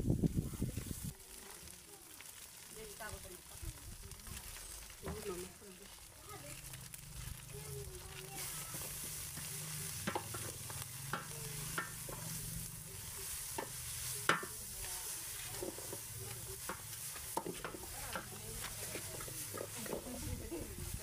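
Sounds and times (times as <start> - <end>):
greens sizzling in a pot: 0.0 - 21.0.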